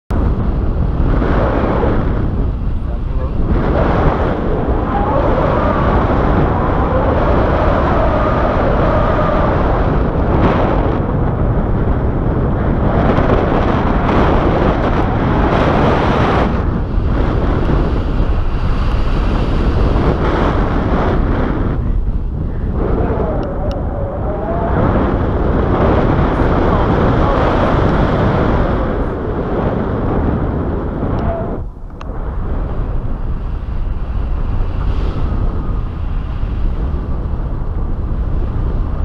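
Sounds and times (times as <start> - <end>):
wind buffeting microphone: 0.1 - 39.0.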